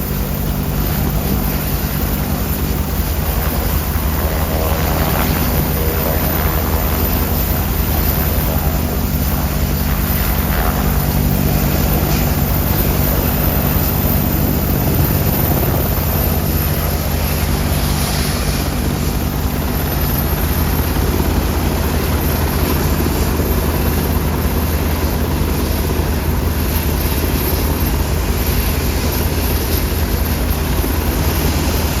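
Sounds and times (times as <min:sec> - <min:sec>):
faint high whine: 0:00.0 - 0:32.0
helicopter rotor beat and engine: 0:00.0 - 0:32.0.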